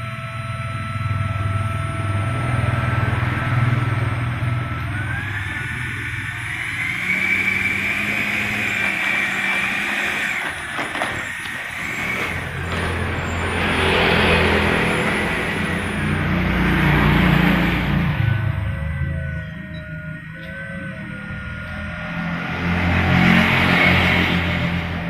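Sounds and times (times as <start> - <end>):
electric ducted fan whine: 0.0 - 25.0.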